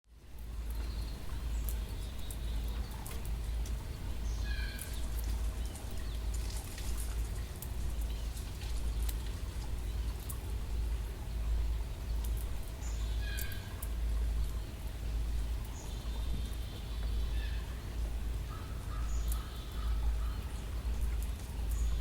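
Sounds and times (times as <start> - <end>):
steady low rumble: 0.1 - 22.0.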